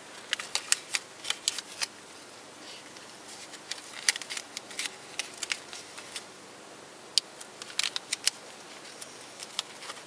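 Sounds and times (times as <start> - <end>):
duct tape crackling and clicking: 0.2 - 2.0, 2.9 - 6.3, 7.1 - 10.0.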